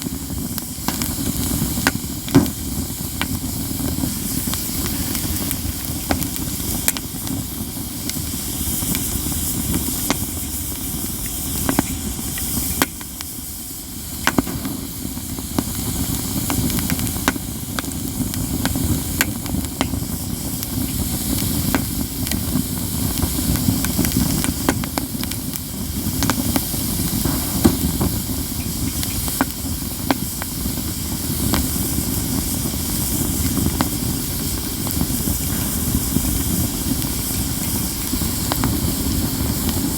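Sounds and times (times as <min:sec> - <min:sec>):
campfire crackling and popping: 0:00.0 - 0:39.9
low rushing hiss: 0:00.0 - 0:39.9.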